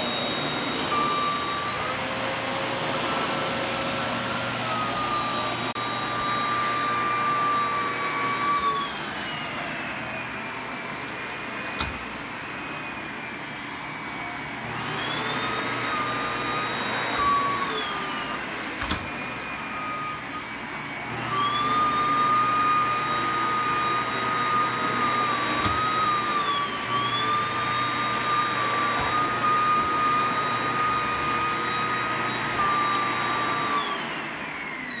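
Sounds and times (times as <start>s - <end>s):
vacuum cleaner motor running: 0.0s - 35.0s.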